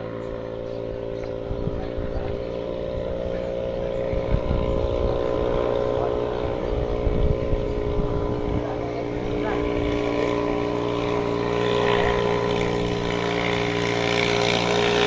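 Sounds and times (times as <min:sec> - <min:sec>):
motorboat engine running: 0:00.0 - 0:15.0
wind buffeting microphone: 0:00.0 - 0:15.0.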